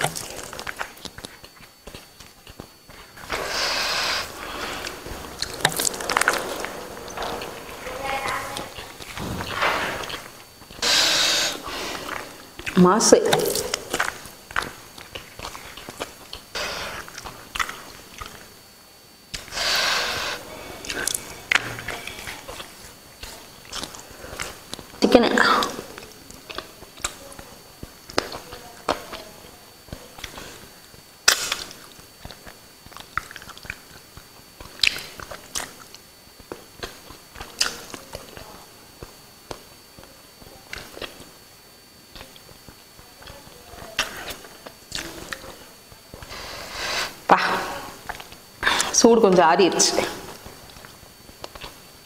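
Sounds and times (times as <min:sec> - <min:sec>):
chewing: 0:00.0 - 0:18.6, 0:19.3 - 0:41.4, 0:42.1 - 0:47.2, 0:47.8 - 0:49.0, 0:50.3 - 0:51.9.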